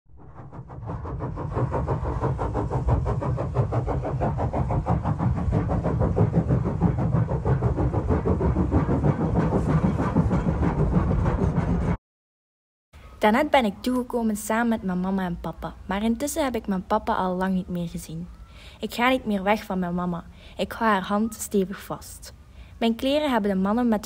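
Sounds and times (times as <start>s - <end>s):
train running on rails: 0.1s - 12.0s, 13.4s - 24.0s.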